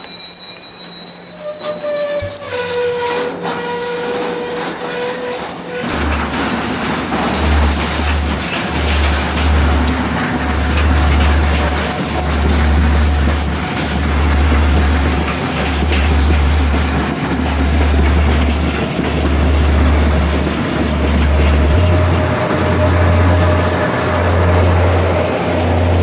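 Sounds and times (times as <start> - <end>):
train rumble and rail noise: 0.0 - 26.0.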